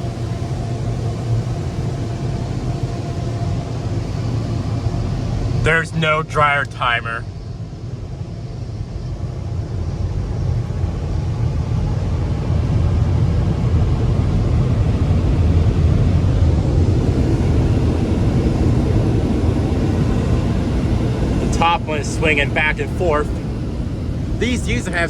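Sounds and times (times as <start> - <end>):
blower dryers roaring: 0.0 - 6.3, 10.8 - 25.0.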